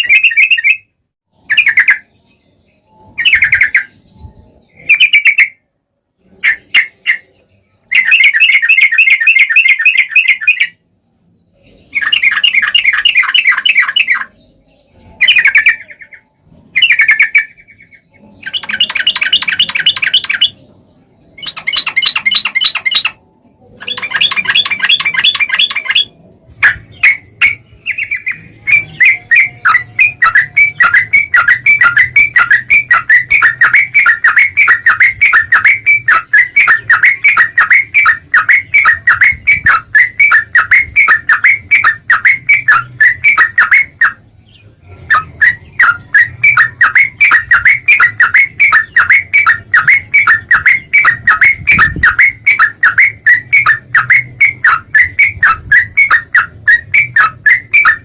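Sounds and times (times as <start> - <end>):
bird chattering call: 6.3 - 10.8, 11.8 - 20.7, 21.3 - 23.2, 23.8 - 44.2, 44.9 - 58.0.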